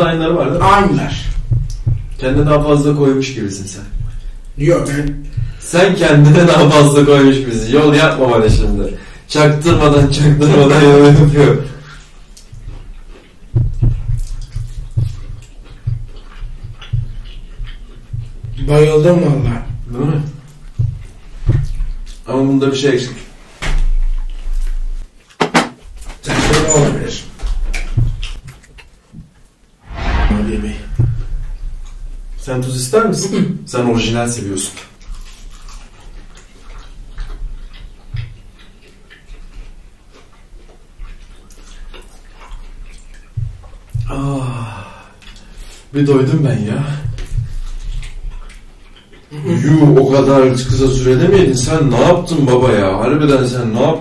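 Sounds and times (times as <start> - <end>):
chewing crispy food: 0.1 - 26.2, 27.2 - 29.8, 33.6 - 54.0.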